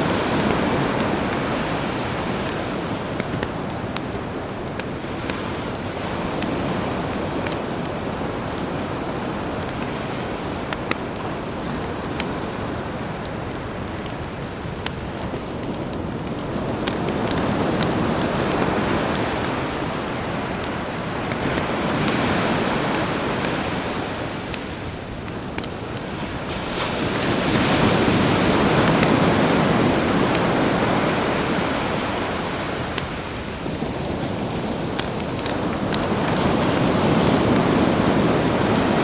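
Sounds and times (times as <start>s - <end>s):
campfire crackling pops: 0.0s - 39.0s
sea waves washing in: 0.0s - 39.0s.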